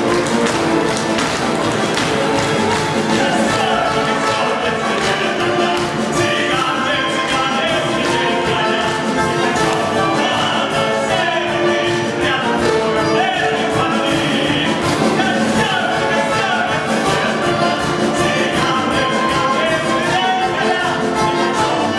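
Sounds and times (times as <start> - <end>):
orchestra playing lively music: 0.0 - 21.9.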